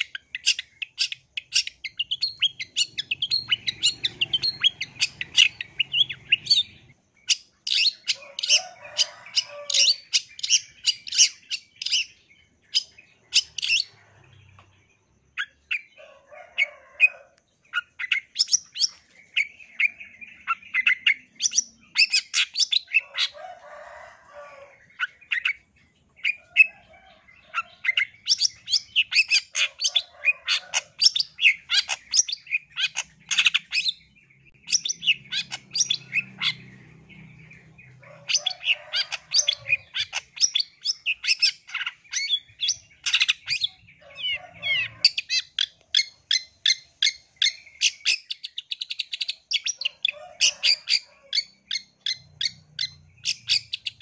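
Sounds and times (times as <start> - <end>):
bird high chattering song: 0.0 - 16.8, 17.5 - 54.0.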